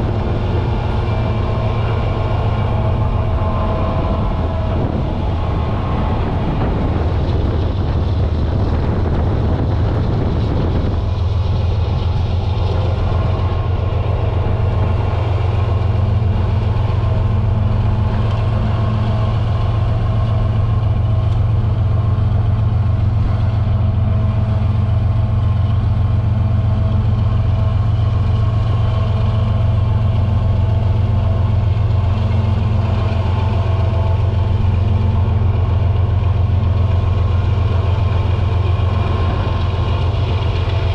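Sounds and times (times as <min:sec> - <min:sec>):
faint steady whine: 0:00.0 - 0:40.9
locomotive engine drone: 0:00.0 - 0:40.9
rough rumble: 0:00.0 - 0:40.9.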